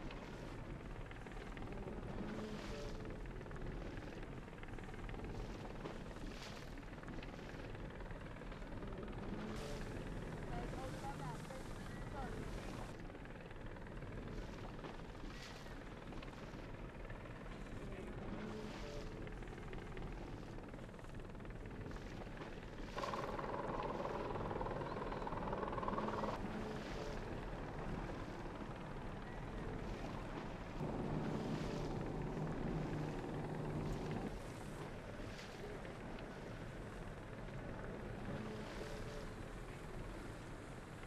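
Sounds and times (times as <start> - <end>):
engine rumble: 0.0 - 41.0.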